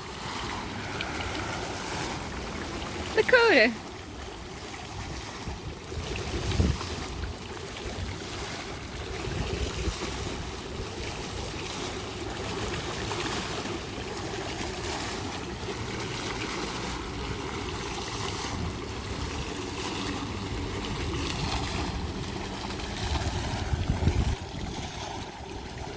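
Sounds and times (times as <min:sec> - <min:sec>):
fountain water splashing: 0:00.0 - 0:25.9.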